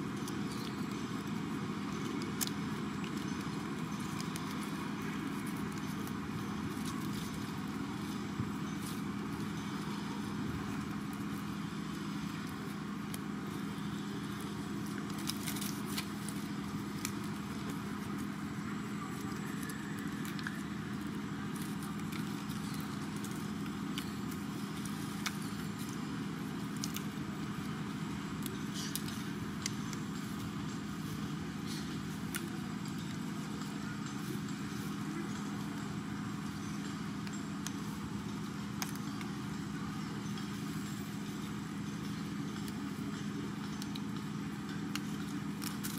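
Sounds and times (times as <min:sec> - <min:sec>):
faint clicks and crackles: 0:00.0 - 0:45.9
steady low hum: 0:00.0 - 0:45.9.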